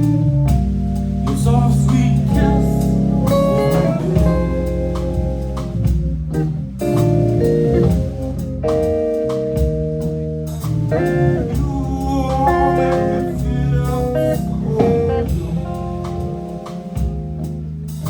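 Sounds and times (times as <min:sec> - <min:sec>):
drums keeping time: 0:00.0 - 0:18.0
guitar line: 0:00.0 - 0:18.0
organ chords: 0:00.0 - 0:18.0.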